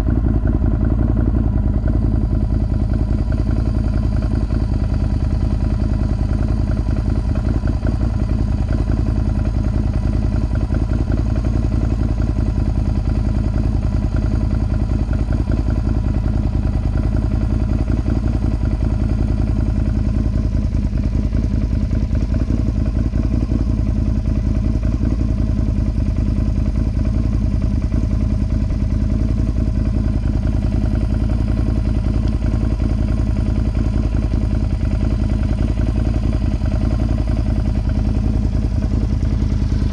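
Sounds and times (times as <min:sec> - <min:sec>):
v-twin engine idling: 0:00.0 - 0:39.9.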